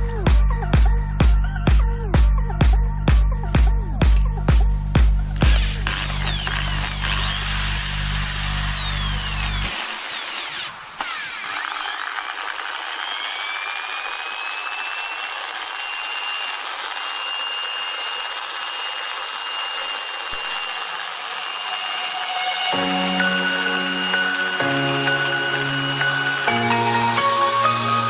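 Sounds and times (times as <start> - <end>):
electric drill motor whine: 5.3 - 28.0.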